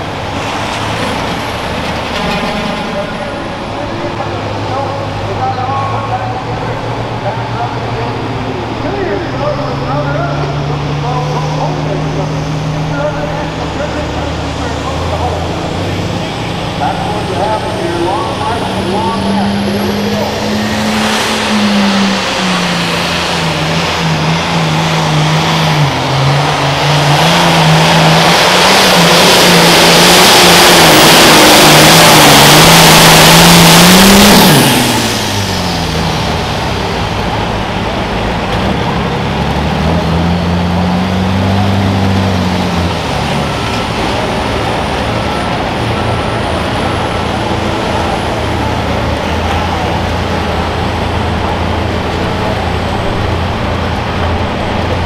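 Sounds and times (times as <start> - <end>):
engine revving: 0.0 - 55.0
tractor diesel engine at full throttle: 0.0 - 55.0.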